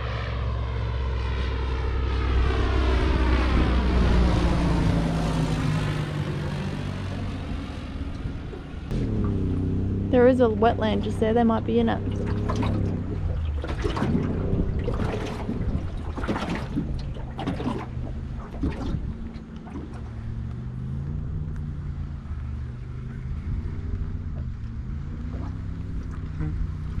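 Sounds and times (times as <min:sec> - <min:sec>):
boat motor humming: 0:00.0 - 0:27.0
wind gusts on microphone: 0:02.7 - 0:27.0.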